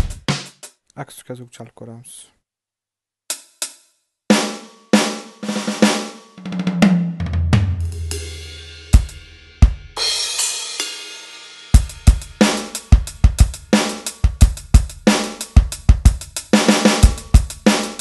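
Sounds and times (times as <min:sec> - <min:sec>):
drum hits and roll: 0:00.0 - 0:00.8, 0:04.3 - 0:18.0.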